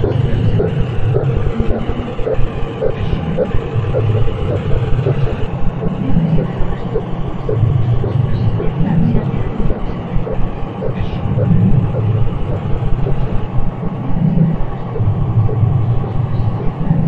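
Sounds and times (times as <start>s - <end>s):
rough low rumble: 0.0s - 17.0s.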